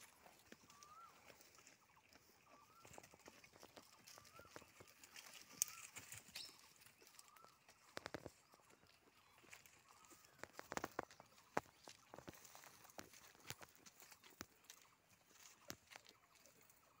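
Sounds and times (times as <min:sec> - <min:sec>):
goats rustling through brush: 0:00.0 - 0:17.0.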